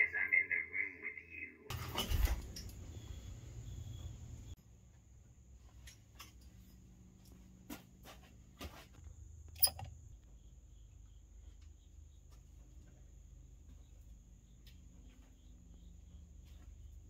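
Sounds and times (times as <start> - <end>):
faint steady hum: 2.0 - 17.0.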